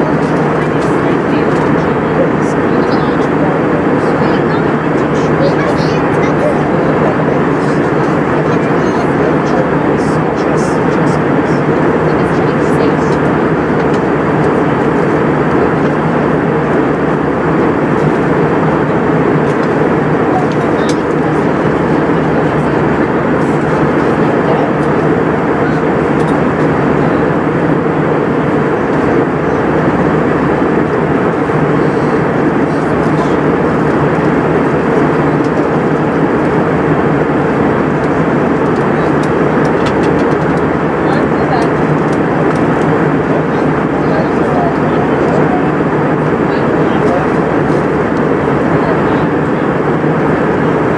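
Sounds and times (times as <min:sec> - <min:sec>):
airplane cabin engine drone: 0:00.0 - 0:50.9.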